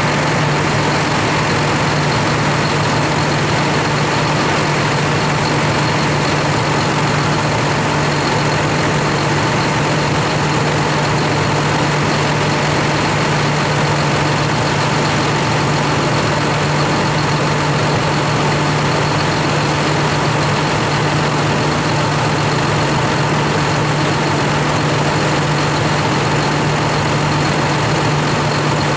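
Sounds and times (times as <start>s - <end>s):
diesel machinery drone: 0.0s - 28.9s.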